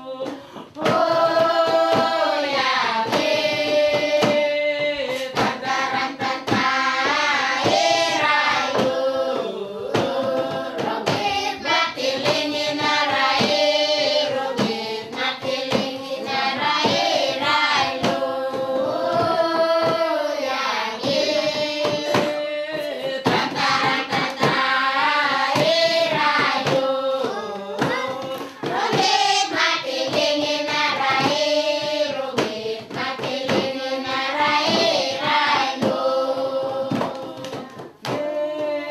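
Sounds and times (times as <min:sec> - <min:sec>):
steady percussive beat: 0:00.0 - 0:38.9
voices singing together: 0:00.0 - 0:38.9.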